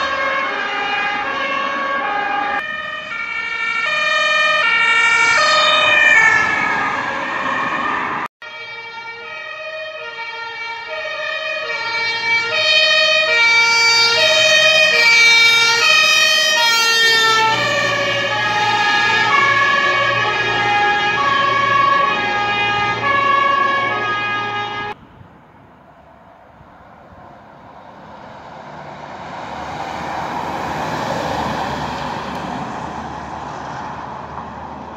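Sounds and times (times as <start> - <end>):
fire truck engine: 0.0 - 34.9
two-tone sirens: 0.0 - 34.9.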